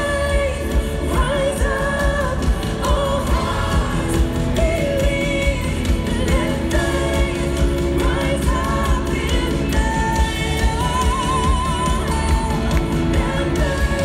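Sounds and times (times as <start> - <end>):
worship band and singers performing: 0.0 - 14.0.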